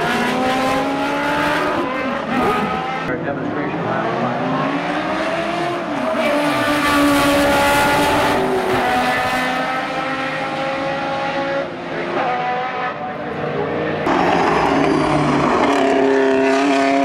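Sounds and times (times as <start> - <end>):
racing engine at high revs: 0.0 - 17.0.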